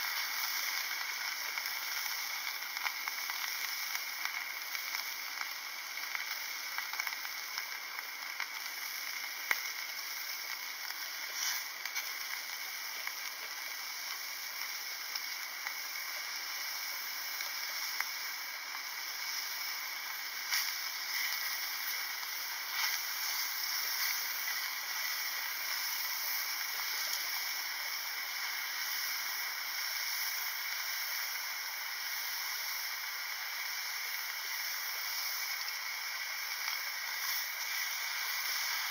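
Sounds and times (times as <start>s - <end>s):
steaks sizzling in frying pan: 0.0s - 38.9s.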